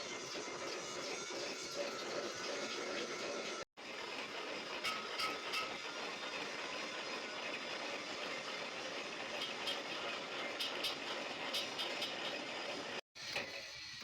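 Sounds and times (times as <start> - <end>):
mechanical running noise: 0.0 - 14.0.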